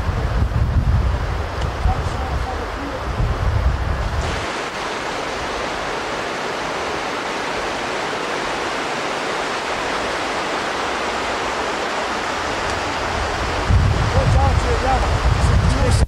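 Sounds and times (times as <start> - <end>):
river water rushing over gravel: 0.0 - 16.0.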